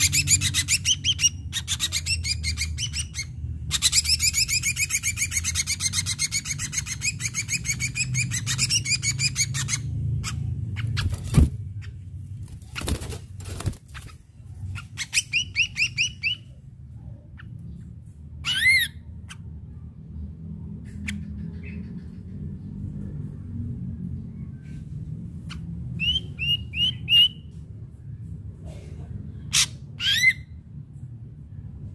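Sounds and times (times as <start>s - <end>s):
low steady rumble: 0.0s - 31.9s.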